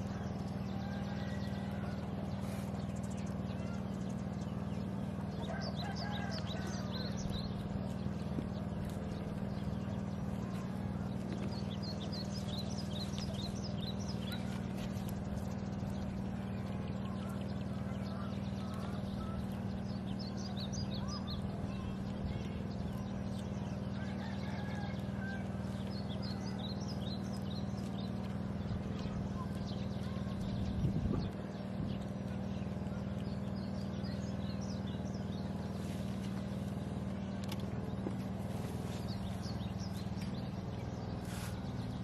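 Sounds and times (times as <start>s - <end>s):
low motor hum: 0.0s - 42.0s
small birds chirping: 0.0s - 42.0s.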